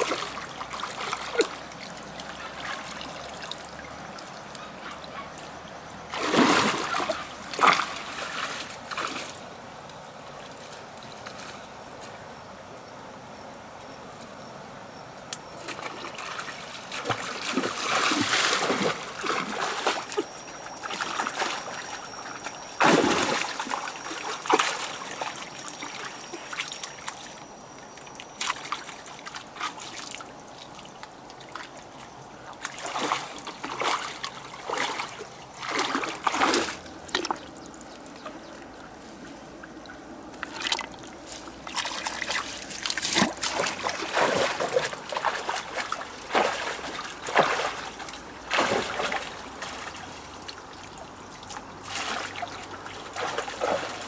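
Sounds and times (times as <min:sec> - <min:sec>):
water splashing and trickling: 0:00.0 - 0:09.6, 0:15.6 - 0:54.0.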